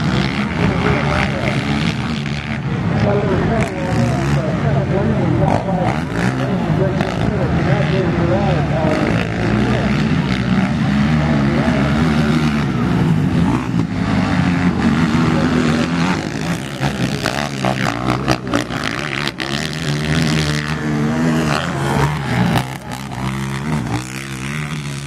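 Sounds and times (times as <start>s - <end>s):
quad engines revving: 0.0s - 25.0s
sharp engine crackles: 0.0s - 25.0s.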